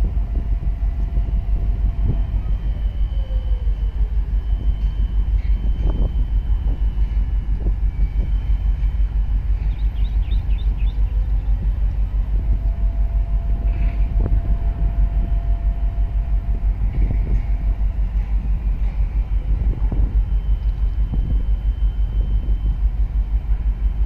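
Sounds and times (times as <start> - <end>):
boat diesel engine throbbing: 0.0 - 24.0.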